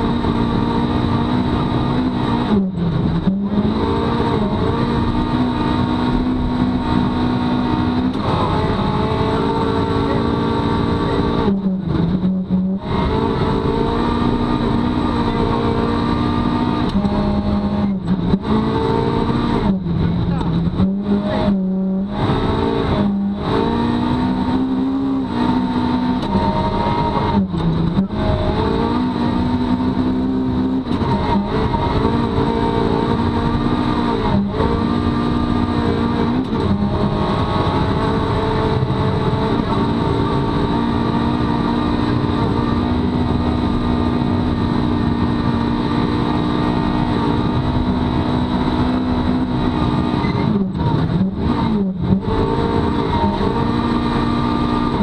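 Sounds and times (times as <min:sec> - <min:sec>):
rally car engine at high revs: 0:00.0 - 0:55.0.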